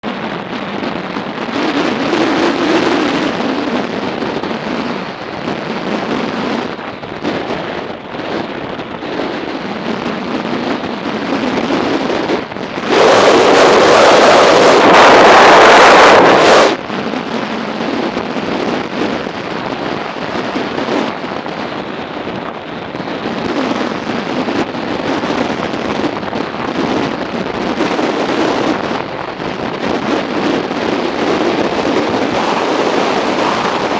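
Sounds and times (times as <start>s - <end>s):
loud rush of noise: 0.0s - 33.9s
wind buffeting microphone: 0.0s - 33.9s.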